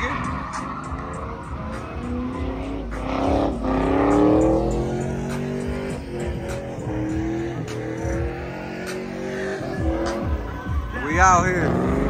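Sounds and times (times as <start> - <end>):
truck engine revving hard: 0.0 - 10.6, 11.4 - 12.0
music: 0.0 - 12.0.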